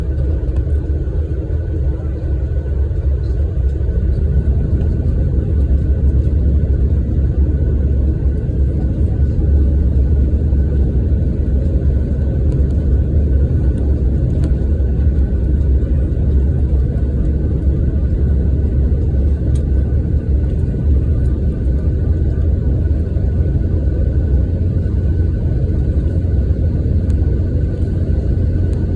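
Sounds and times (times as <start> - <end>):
airliner engines rumbling: 0.0 - 28.9.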